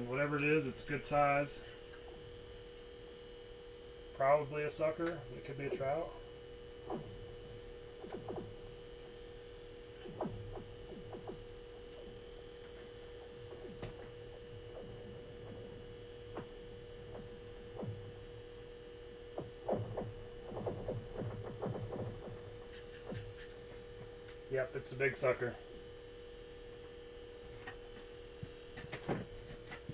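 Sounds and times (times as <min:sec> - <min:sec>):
steady electrical hum: 0:00.0 - 0:29.9.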